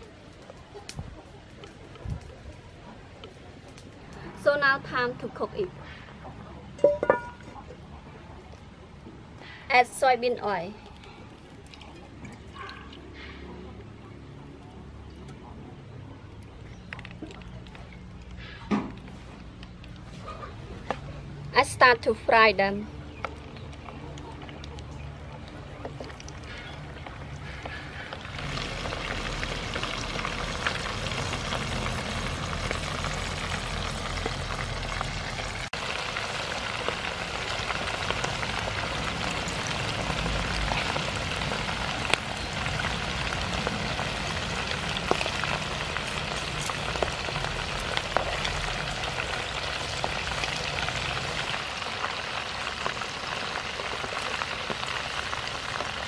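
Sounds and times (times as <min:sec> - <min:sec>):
shrimp deep-frying in oil: 0:06.6 - 0:20.1, 0:21.6 - 0:56.0.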